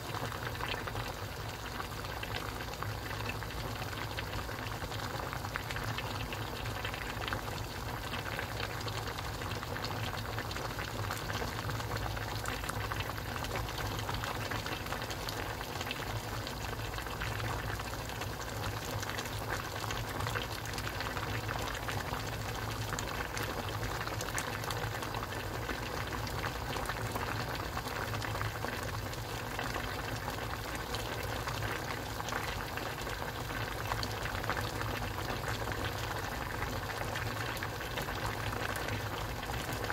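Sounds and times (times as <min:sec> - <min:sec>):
stew bubbling and popping: 0:00.0 - 0:39.9.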